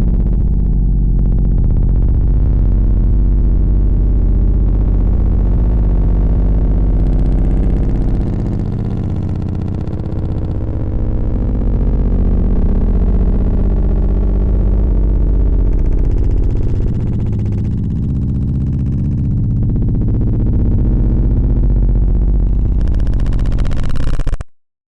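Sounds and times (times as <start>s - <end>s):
deep bass buzzing pulse: 0.0s - 24.5s.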